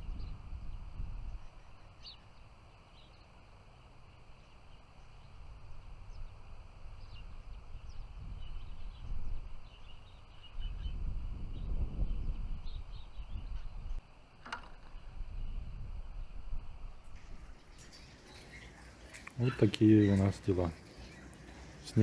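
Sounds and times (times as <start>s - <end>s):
songbirds chirping: 0.0s - 15.7s, 16.8s - 22.0s.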